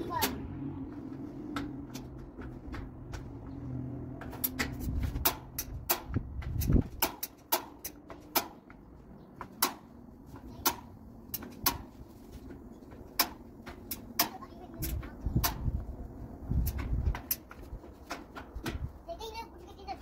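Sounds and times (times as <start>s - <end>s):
sharp clicks and knocks: 0.1s - 19.0s.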